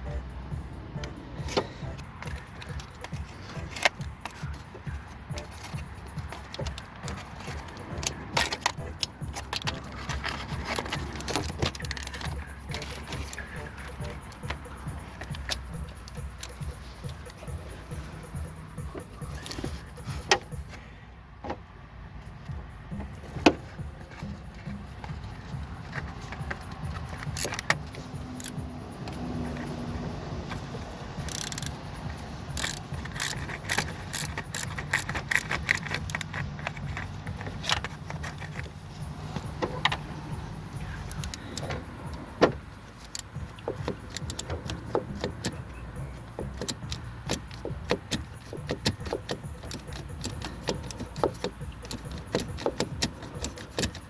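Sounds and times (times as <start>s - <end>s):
metal hand tools clinking: 1.4s - 20.6s, 23.7s - 40.1s, 40.7s - 54.0s.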